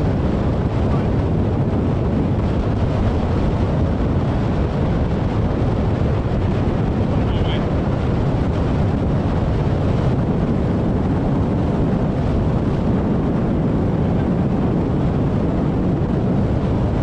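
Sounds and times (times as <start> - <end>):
outboard motor: 0.0 - 17.0
water along hull: 0.0 - 17.0
wind on microphone: 0.0 - 17.0.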